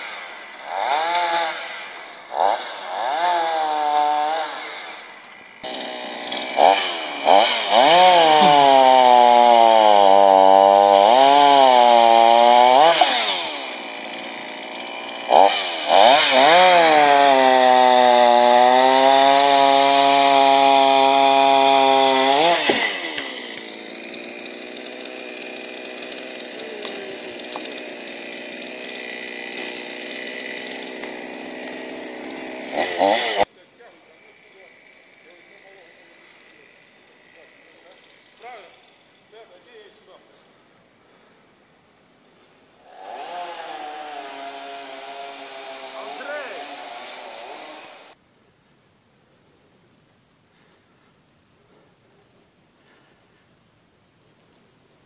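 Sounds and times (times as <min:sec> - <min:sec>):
chainsaw running under load: 0:00.0 - 0:40.2, 0:42.8 - 0:48.2.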